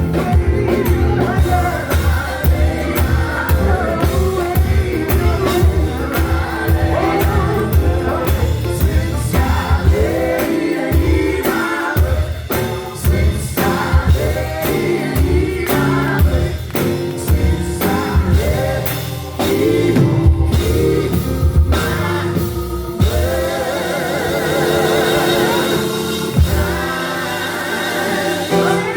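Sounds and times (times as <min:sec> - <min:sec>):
bass and drums: 0:00.0 - 0:28.9
gospel group singing: 0:00.0 - 0:28.9.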